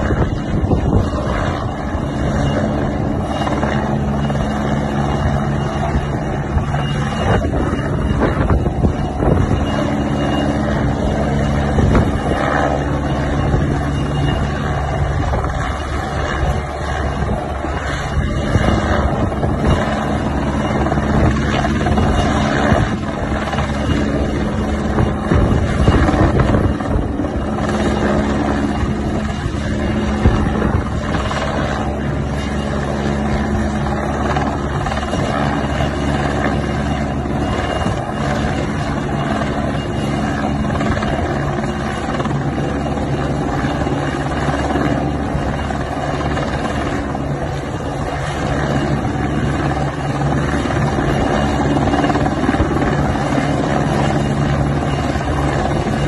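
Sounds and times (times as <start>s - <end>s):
helicopter rotor and turbine drone: 0.0s - 56.0s
wind rumble on microphone: 0.0s - 56.0s.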